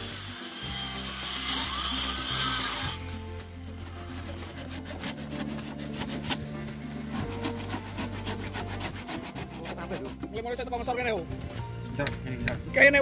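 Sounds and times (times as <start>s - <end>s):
hand saw cutting wood: 0.0s - 10.8s
background music: 0.0s - 13.0s.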